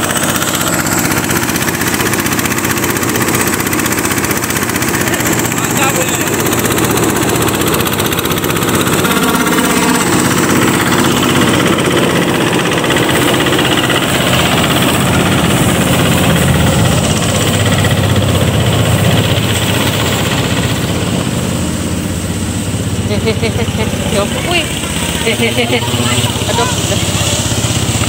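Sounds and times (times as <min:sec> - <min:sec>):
rice thresher running: 0:00.0 - 0:28.0.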